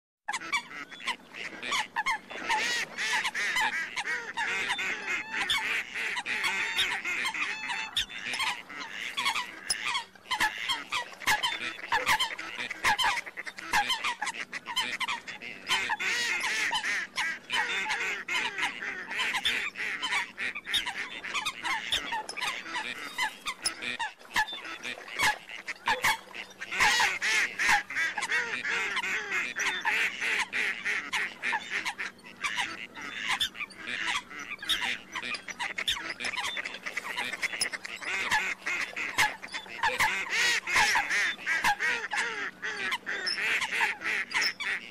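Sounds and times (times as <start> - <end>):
ducks and water hens calling: 0.3 - 44.9.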